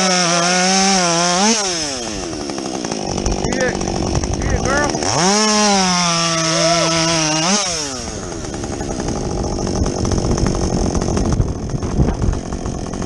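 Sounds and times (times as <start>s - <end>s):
chainsaw cutting and idling: 0.0s - 13.0s.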